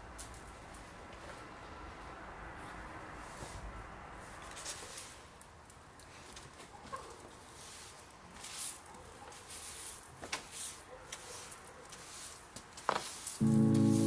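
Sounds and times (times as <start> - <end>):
faint scuffs and rustles: 0.3 - 5.4, 6.0 - 13.4.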